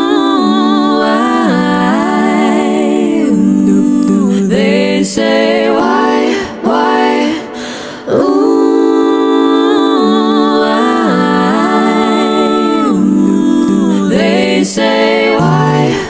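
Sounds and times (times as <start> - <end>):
woman singing looped harmonies: 0.0 - 16.0.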